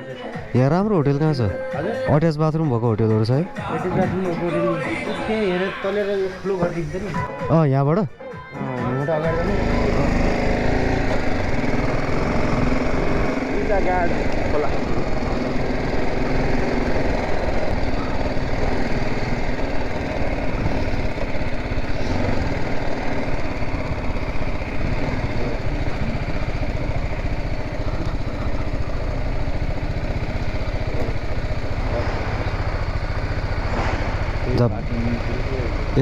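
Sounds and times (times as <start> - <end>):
motorcycle engine idling: 0.0 - 7.4, 9.1 - 36.0.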